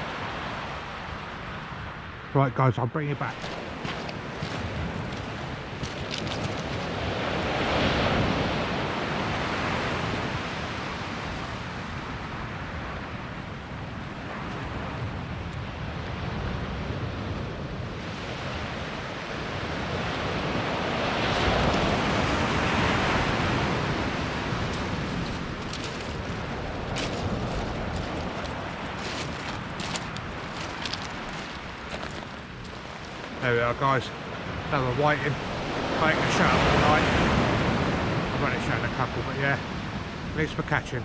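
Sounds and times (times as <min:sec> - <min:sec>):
small surf washing on beach: 0:03.1 - 0:41.0.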